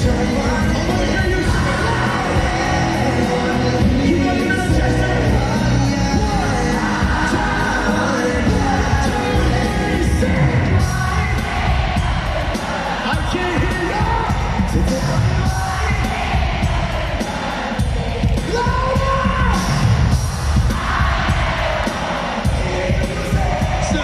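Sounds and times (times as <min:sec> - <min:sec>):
boy band singing: 0:00.0 - 0:24.0
crowd yelling along: 0:00.0 - 0:24.0
loud amplified backing music: 0:00.0 - 0:24.0.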